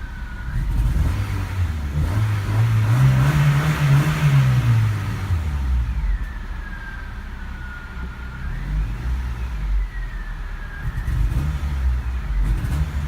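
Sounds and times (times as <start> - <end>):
car engine running unevenly: 0.0 - 13.0
faint engine whine: 0.0 - 13.0.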